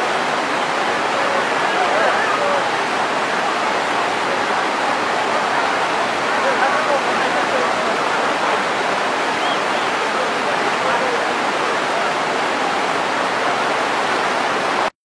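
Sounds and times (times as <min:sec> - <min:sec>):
river rushing over boulders: 0:00.0 - 0:14.9.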